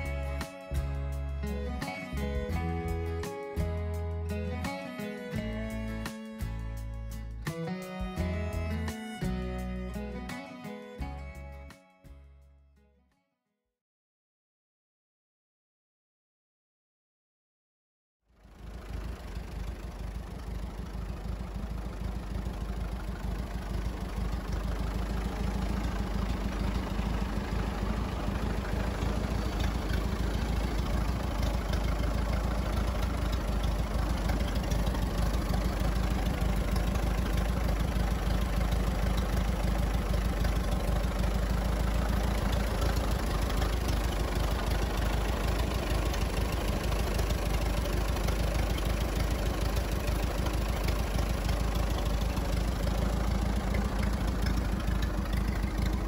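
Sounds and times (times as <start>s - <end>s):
tractor engine idling: 0.0s - 12.2s, 18.4s - 56.0s.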